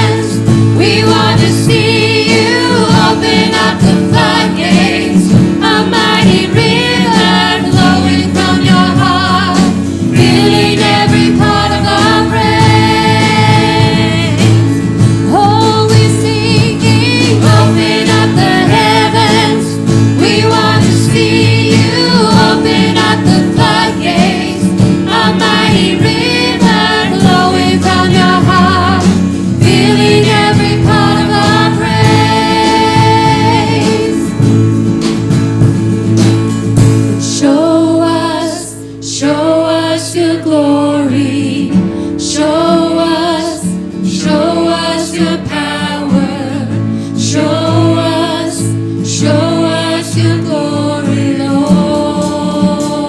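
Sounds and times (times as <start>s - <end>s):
group singing in harmony: 0.0s - 35.7s, 37.2s - 53.0s.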